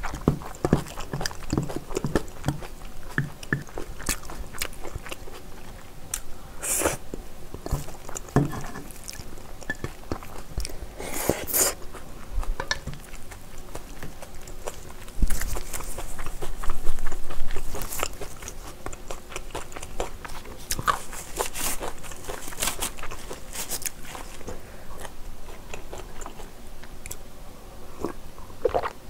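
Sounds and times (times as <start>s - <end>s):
wet chewing and mouth clicks: 0.0s - 27.2s, 28.0s - 29.0s.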